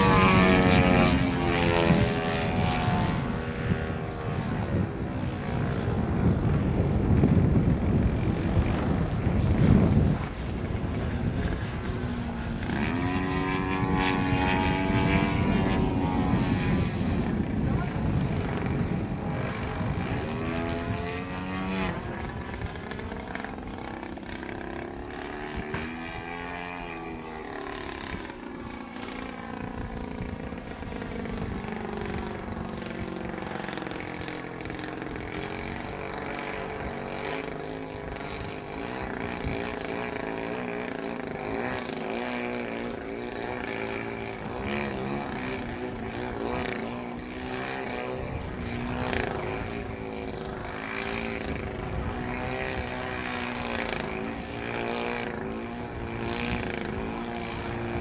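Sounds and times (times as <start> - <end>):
model plane engine and propeller: 0.0 - 58.0.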